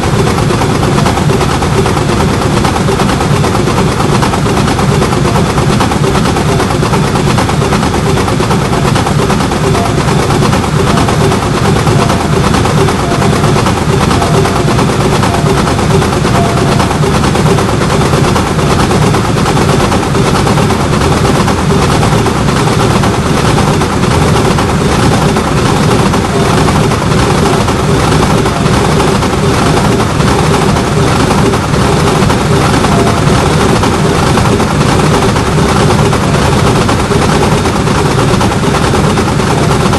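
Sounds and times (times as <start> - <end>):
level-crossing warning bell: 0.0 - 39.9.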